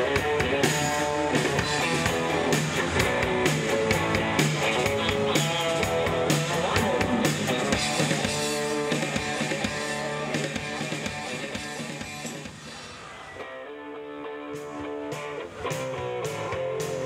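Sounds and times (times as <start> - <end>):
electric guitars: 0.0 - 12.7, 13.4 - 17.0
drum kit: 0.0 - 13.0, 14.4 - 17.0.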